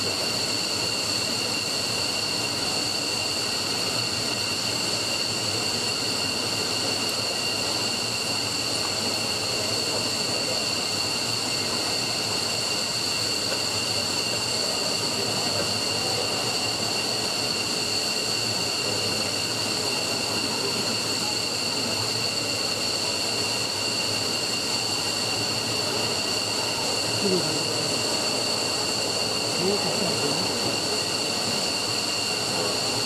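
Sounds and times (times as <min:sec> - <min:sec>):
high steady whining tones: 0:00.0 - 0:33.0
jet engines running: 0:00.0 - 0:33.0.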